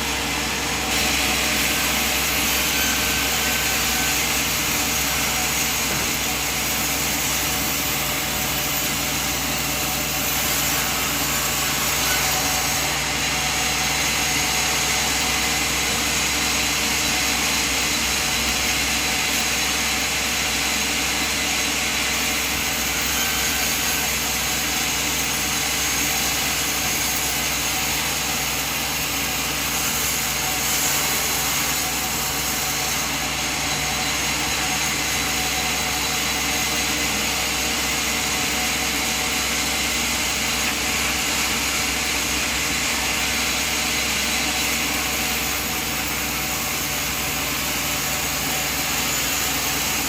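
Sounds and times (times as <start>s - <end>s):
sawmill machine drone: 0.0s - 50.0s.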